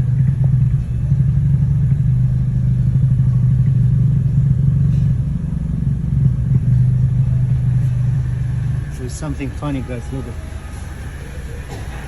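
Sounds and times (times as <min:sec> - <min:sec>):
engine drone with rattling flutter: 0:00.0 - 0:12.0.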